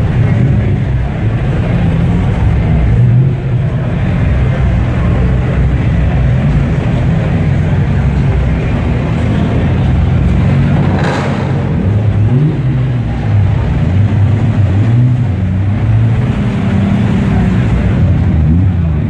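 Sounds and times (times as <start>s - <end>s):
car engines droning at low speed: 0.0s - 19.0s.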